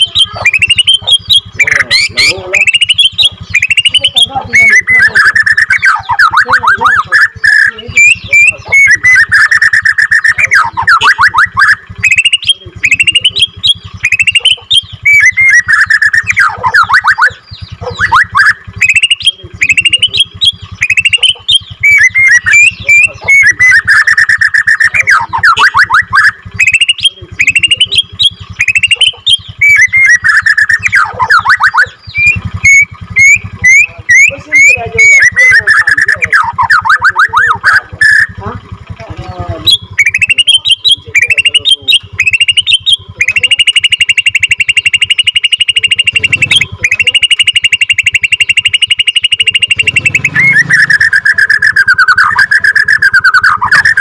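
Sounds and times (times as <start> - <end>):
songbird trills and whistles: 0.0 - 38.6, 39.2 - 54.0.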